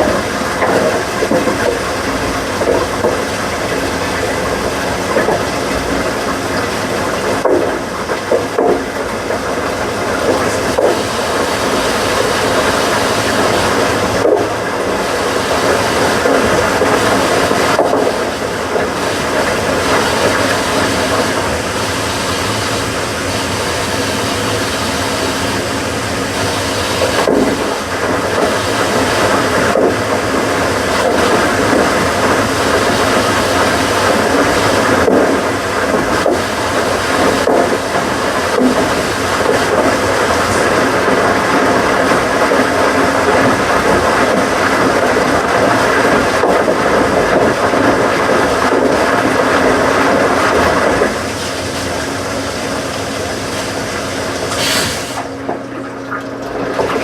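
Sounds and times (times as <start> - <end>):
washing machines running: 0.0 - 57.0.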